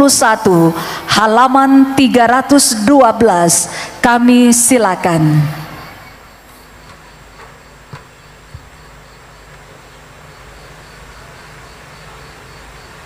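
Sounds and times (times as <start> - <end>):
public-address hiss and hum: 0.0 - 13.0.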